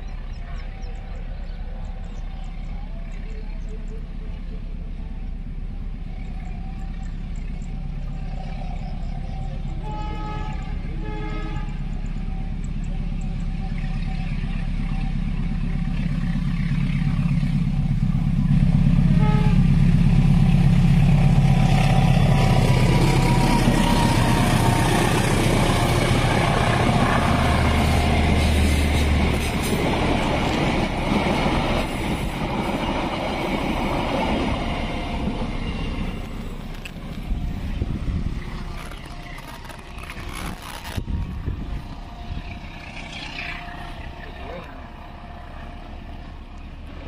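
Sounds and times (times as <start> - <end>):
diesel locomotive engine hum: 0.0 - 47.0
train wheels rumbling on rails: 0.0 - 47.0.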